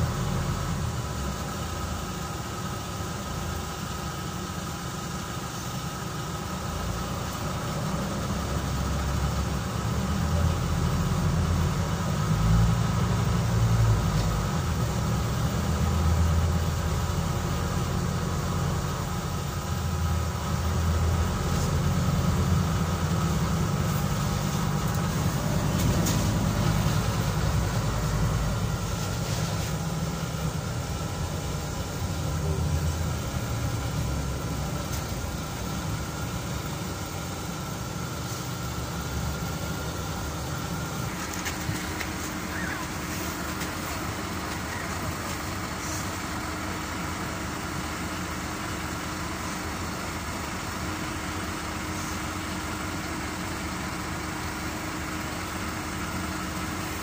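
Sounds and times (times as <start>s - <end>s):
bus engine rumble: 0.0s - 57.0s.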